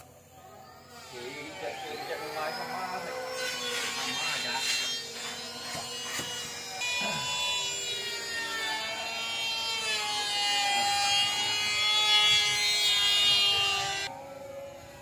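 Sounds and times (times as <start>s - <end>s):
power tool whining: 0.6s - 15.0s.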